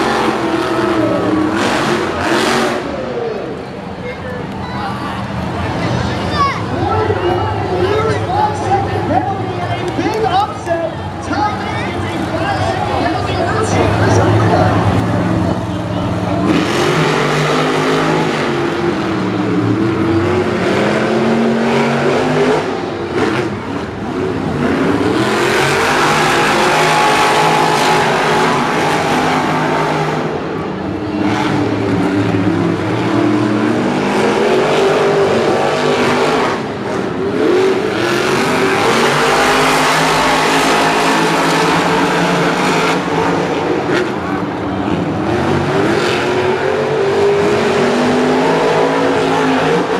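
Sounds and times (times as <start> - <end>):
truck engines revving hard: 0.0 - 49.9.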